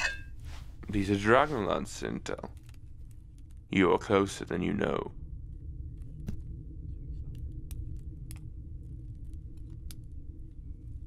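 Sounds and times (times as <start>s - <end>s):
low ambient rumble: 0.0s - 11.0s.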